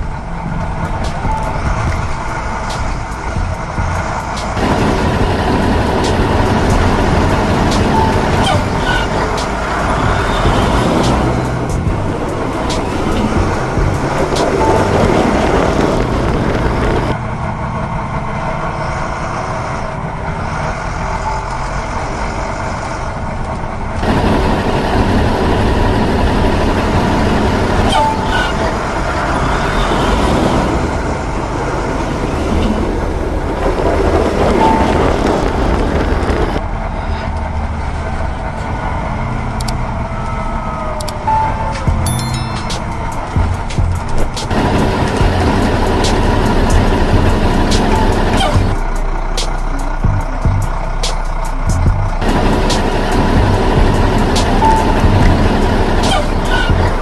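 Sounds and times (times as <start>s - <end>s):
heavy truck engine running: 0.0s - 57.0s.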